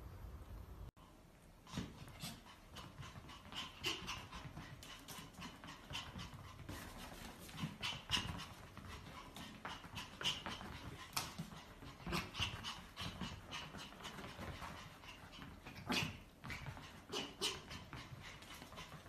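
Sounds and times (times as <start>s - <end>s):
dog panting: 1.0s - 19.0s.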